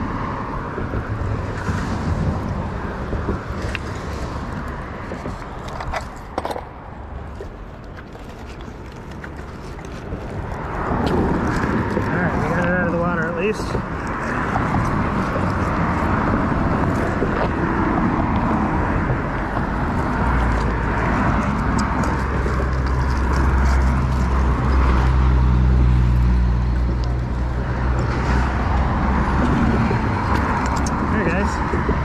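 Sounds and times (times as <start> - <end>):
vehicle engine hum: 0.0 - 32.0.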